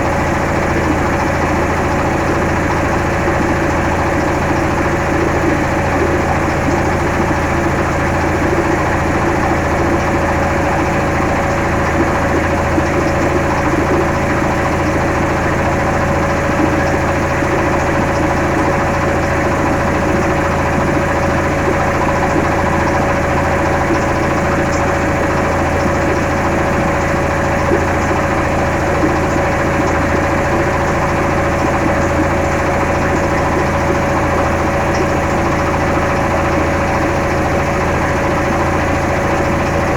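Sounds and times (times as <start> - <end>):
engine idling with low rumble: 0.0 - 39.9.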